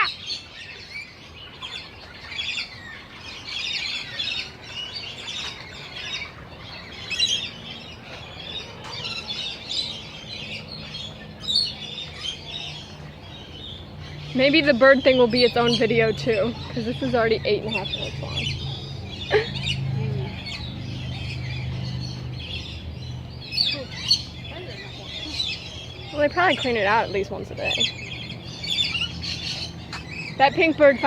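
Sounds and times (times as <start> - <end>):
many birds chirping: 0.0 - 31.0.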